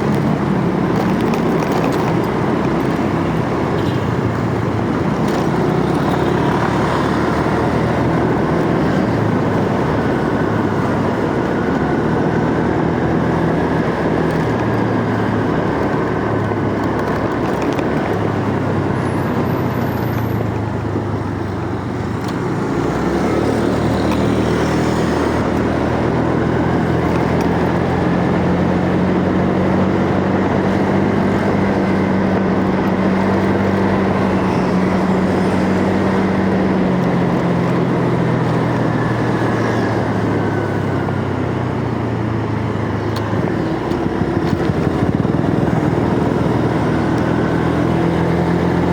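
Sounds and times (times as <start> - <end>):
motorcycle engine running: 0.0 - 48.9
wind noise on microphone: 0.0 - 48.9.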